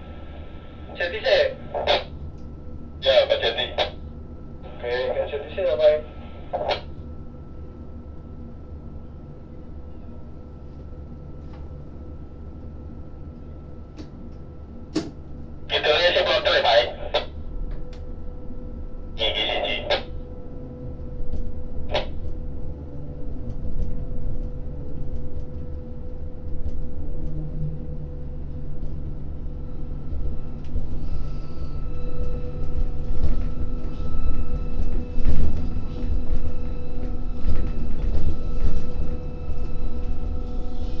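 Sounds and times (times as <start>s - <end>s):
high machinery whine: 0.0s - 41.0s.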